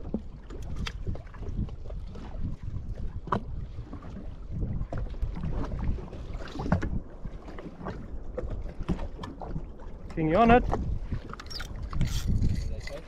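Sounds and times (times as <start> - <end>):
water lapping against a hull: 0.0 - 13.0
wind buffeting microphone: 0.0 - 13.0.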